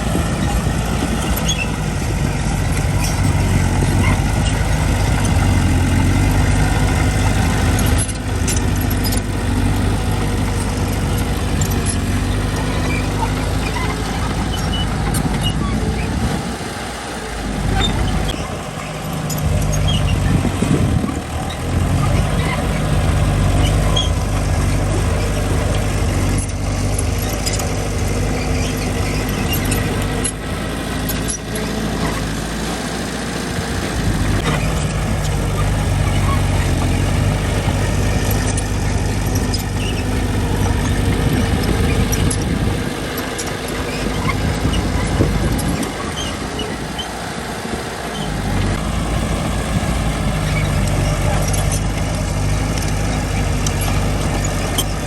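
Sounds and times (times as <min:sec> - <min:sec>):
diesel construction machinery engine: 0:00.0 - 0:55.0.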